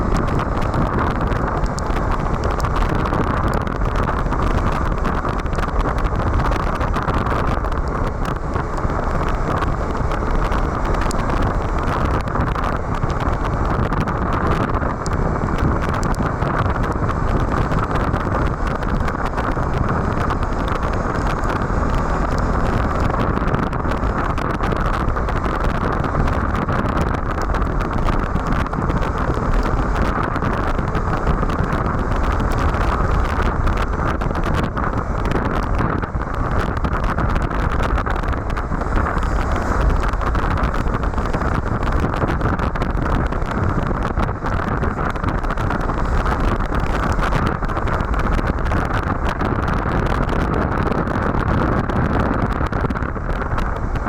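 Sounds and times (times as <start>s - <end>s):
motorcycle road noise: 0.0s - 54.0s
wind buffeting microphone: 0.0s - 54.0s.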